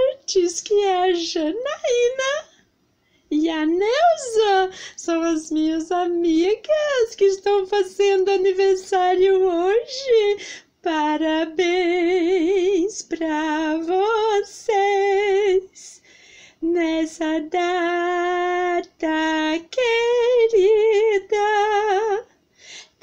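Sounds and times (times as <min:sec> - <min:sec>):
woman singing unaccompanied: 0:00.0 - 0:02.6, 0:03.3 - 0:22.3.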